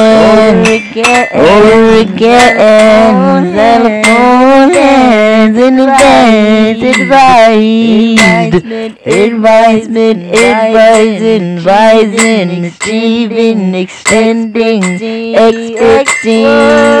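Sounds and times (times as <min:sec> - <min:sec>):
wordless vocal melody: 0:00.0 - 0:17.0.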